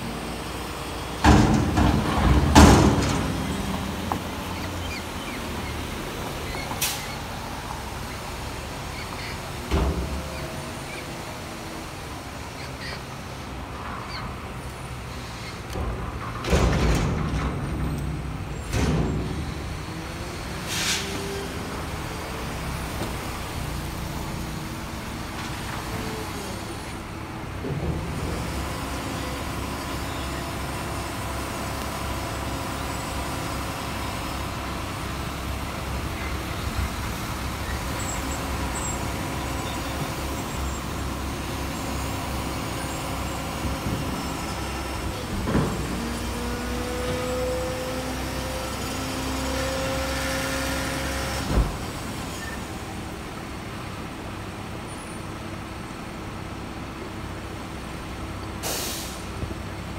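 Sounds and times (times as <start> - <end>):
garbage truck engine running: 0.0 - 59.9
traffic: 0.0 - 59.9.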